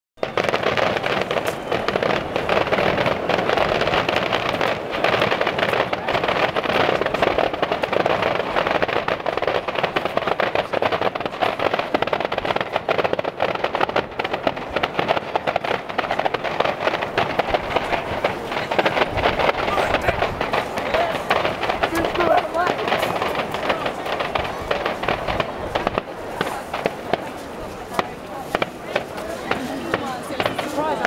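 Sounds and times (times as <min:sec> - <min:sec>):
crowd noise: 0:00.2 - 0:31.0
firecrackers crackling and popping: 0:00.2 - 0:31.0.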